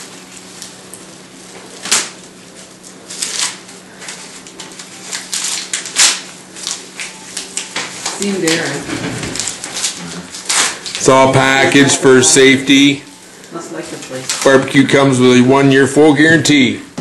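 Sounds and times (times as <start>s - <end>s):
plastic wrapping crinkling: 0.0s - 15.4s
steady low hum: 0.0s - 17.0s.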